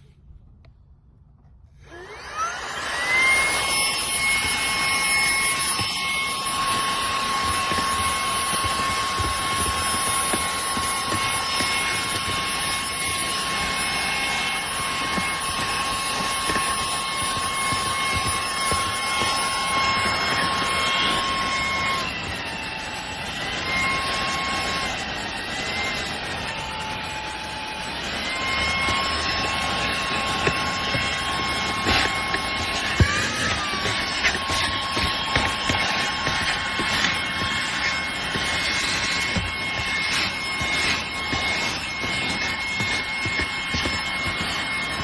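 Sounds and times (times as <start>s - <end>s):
handheld vacuum whine: 1.7s - 45.0s.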